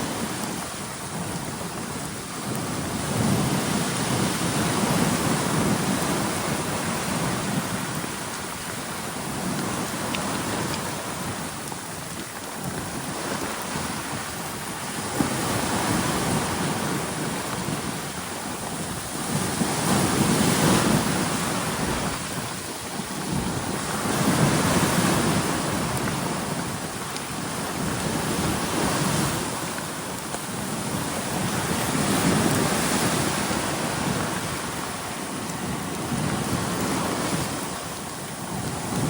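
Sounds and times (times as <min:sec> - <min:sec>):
ocean waves washing in: 0:00.0 - 0:39.0
steady rain falling: 0:00.0 - 0:39.0.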